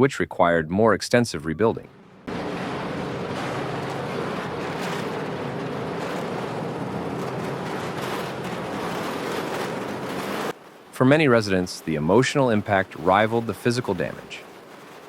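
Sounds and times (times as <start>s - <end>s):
steady rushing noise: 1.8s - 15.0s.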